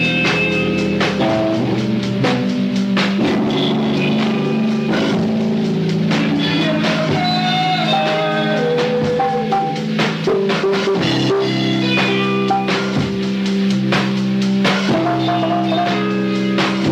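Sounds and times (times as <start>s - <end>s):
rock band recording: 0.0s - 16.9s.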